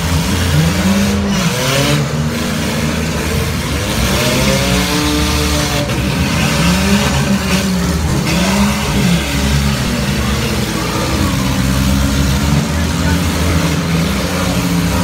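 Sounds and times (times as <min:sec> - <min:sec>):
car engines revving unevenly: 0:00.0 - 0:15.0.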